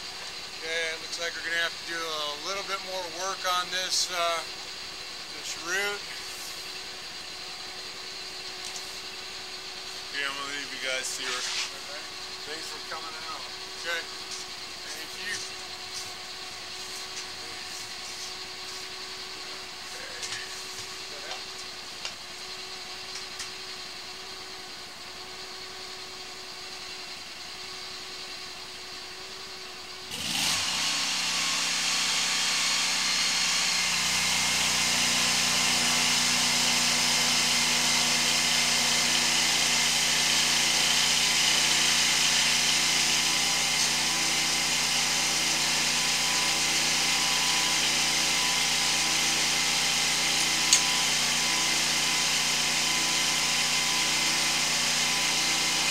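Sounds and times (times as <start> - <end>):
engine and pump running: 0.0 - 55.9.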